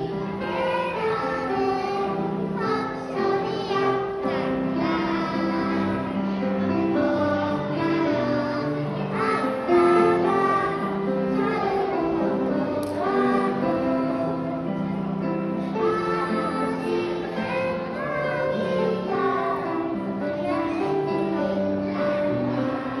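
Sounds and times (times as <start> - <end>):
children's chorus singing: 0.0 - 23.0
musical accompaniment: 0.0 - 23.0.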